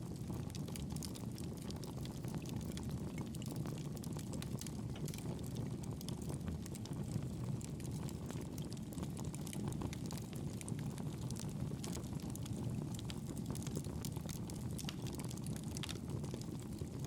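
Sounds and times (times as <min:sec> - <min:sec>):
burning wood crackling and popping: 0:00.0 - 0:17.0
campfire flames rushing: 0:00.0 - 0:17.0.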